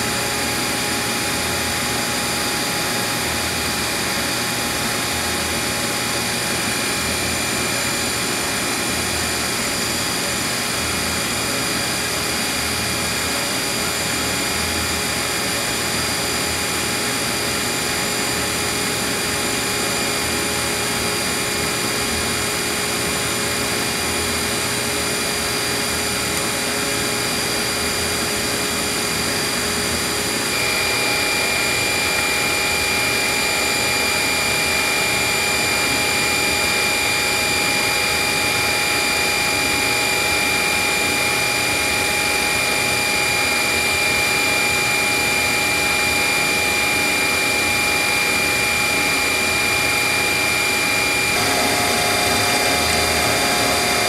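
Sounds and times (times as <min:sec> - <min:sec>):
machining center whining: 0:00.0 - 0:54.0.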